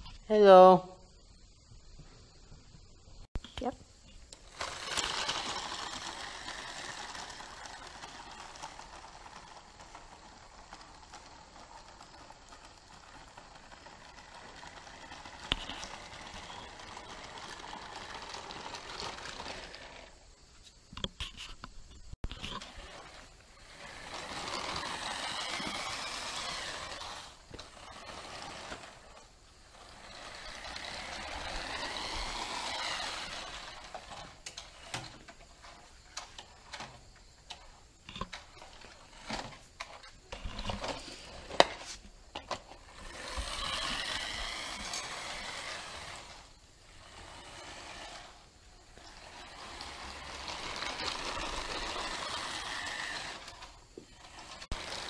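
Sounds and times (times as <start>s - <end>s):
toy car electric motor whining: 3.6s - 20.4s, 22.3s - 55.0s.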